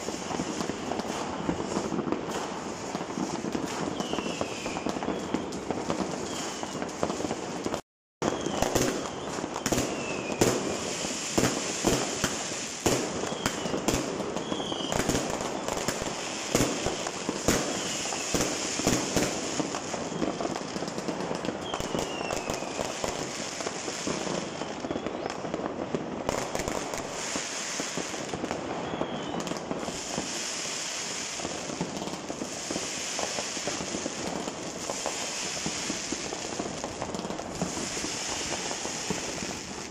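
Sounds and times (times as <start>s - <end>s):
firework whistles: 0.0s - 39.9s
fireworks crackling and popping: 0.0s - 39.9s.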